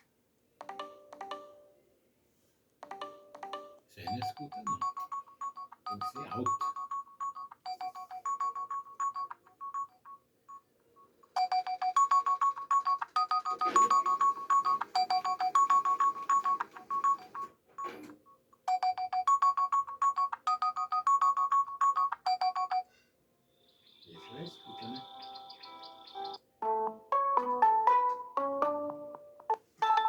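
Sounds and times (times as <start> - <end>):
phone ringtone electronic melody: 0.6 - 1.8, 2.8 - 18.0, 18.7 - 22.9, 24.2 - 30.0.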